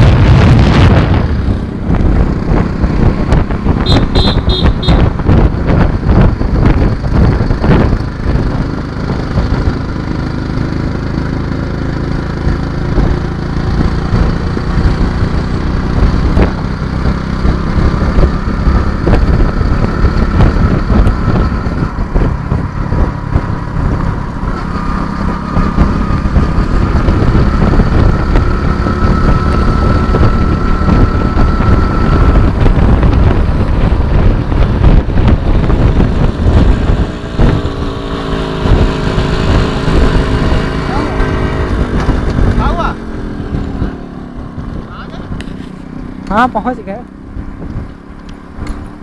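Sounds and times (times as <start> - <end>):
motorcycle engines running: 0.0 - 49.0
wind rumble on microphone: 0.0 - 49.0.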